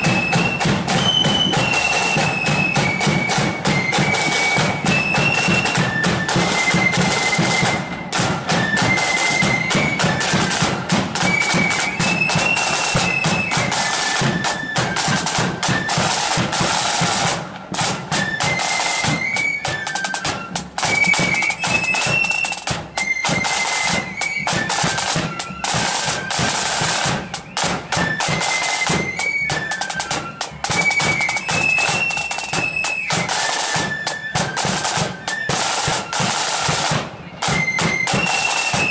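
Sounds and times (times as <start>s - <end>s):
flutes playing high melody: 0.0s - 38.9s
snare drum rolls: 0.0s - 38.9s.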